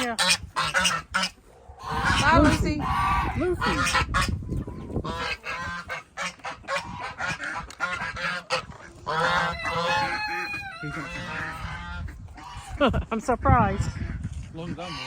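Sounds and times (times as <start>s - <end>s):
waterfowl honking: 0.0s - 12.8s.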